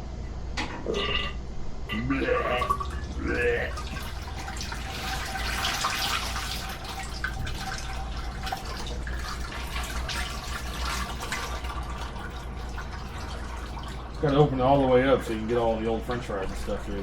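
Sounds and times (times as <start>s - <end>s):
oil running into a bucket: 2.6s - 17.0s.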